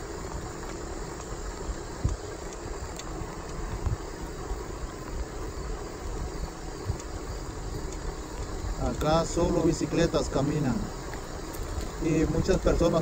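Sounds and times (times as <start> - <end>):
high insect trill: 0.0 - 13.0
wind buffeting microphone: 0.0 - 13.0.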